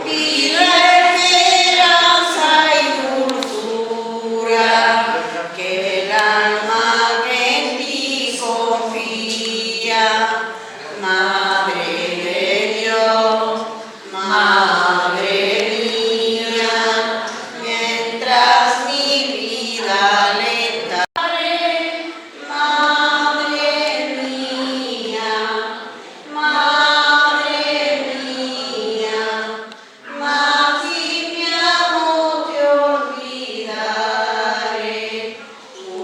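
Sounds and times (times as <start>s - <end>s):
group singing a hymn: 0.0s - 36.0s.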